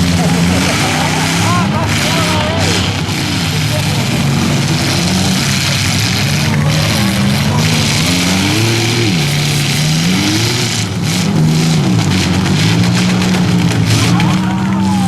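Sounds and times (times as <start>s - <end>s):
car engines revving: 0.0s - 15.0s
cars colliding: 0.0s - 15.0s.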